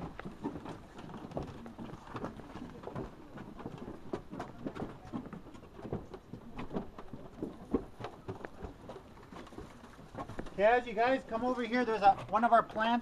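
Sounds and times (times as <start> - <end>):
footsteps on wooden boardwalk: 0.0 - 13.0.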